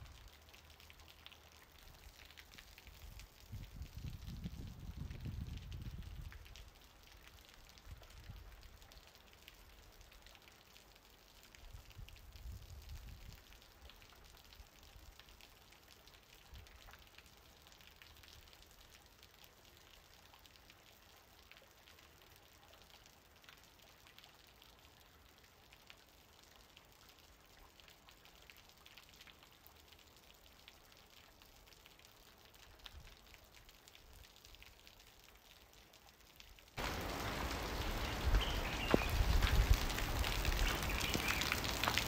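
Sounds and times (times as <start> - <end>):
rainfall with ticking drops: 0.0 - 42.0.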